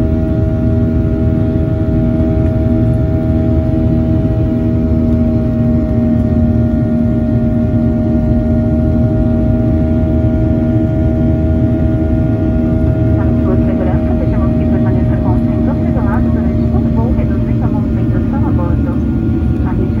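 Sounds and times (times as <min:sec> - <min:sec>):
deep rumble of airflow: 0:00.0 - 0:20.0
hum of engine tones: 0:00.0 - 0:20.0.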